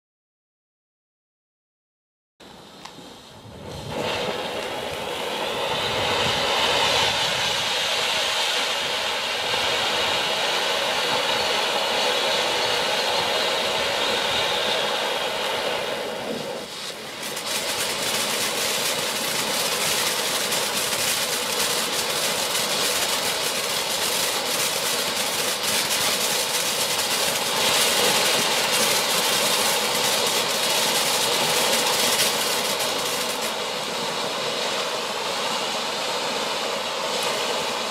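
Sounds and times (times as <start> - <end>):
firework fountain hissing: 2.4 - 37.9
firework crackling: 2.5 - 37.9.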